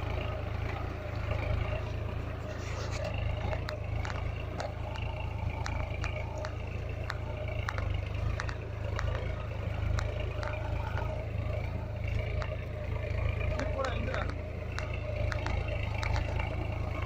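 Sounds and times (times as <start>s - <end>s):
sharp clicks and rattles: 0.0s - 17.0s
tractor diesel engine running: 0.0s - 17.0s.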